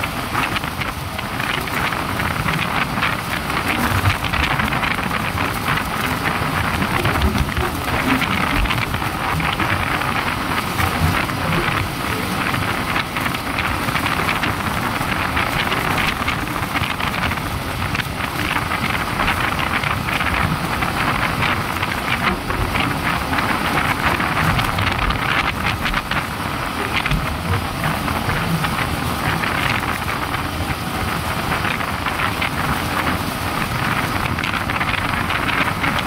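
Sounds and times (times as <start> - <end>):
motorcycle engine and tyre noise: 0.0 - 36.0
wind rushing over microphone: 0.0 - 36.0.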